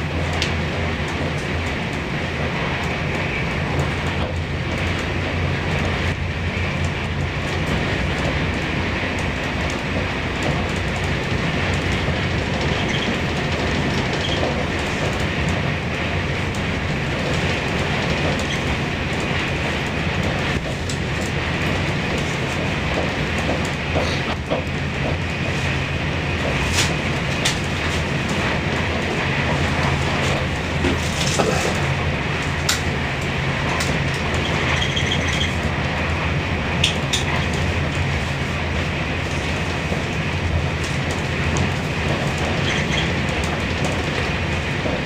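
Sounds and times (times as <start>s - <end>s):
train clatter: 0.0s - 45.0s
train wheels rumbling on track: 0.0s - 45.0s.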